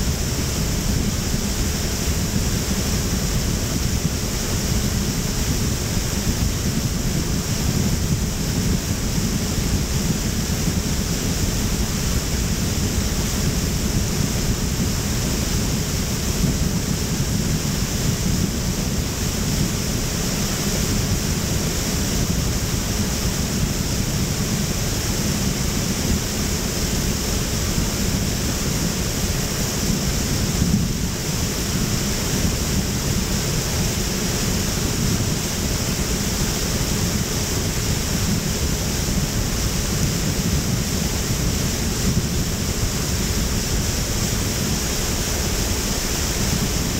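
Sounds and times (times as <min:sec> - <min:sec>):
faint steady hum: 0:00.0 - 0:46.9
wind buffeting microphone: 0:00.0 - 0:46.9.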